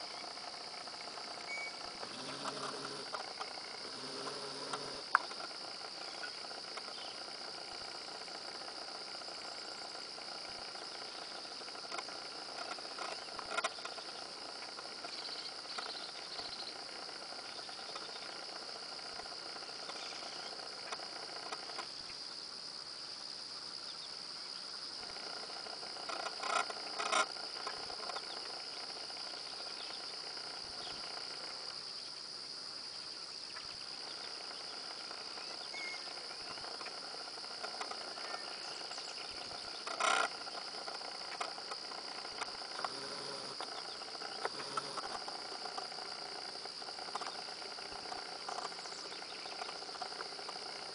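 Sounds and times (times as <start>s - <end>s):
insects droning: 0.0s - 50.9s.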